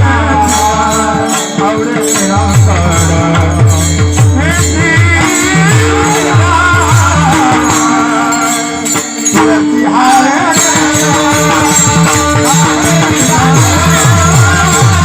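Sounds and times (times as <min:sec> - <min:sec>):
drum rhythm: 0:00.0 - 0:15.0
jingling hand cymbals: 0:00.0 - 0:15.0.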